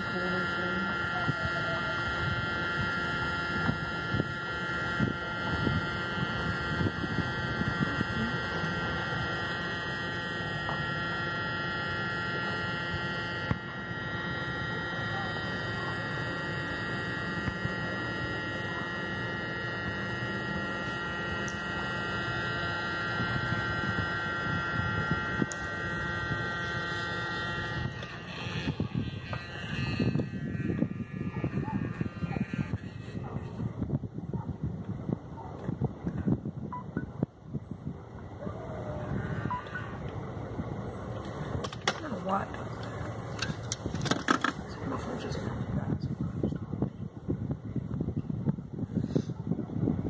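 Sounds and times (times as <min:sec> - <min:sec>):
faint electrical whine: 0:00.0 - 0:50.0.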